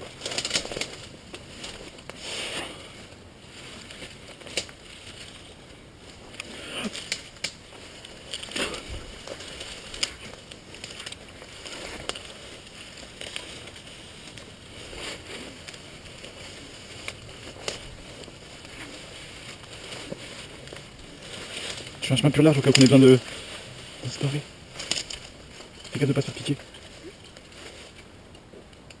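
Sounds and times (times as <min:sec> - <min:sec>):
undergrowth rustling and snapping: 0:00.0 - 0:29.0.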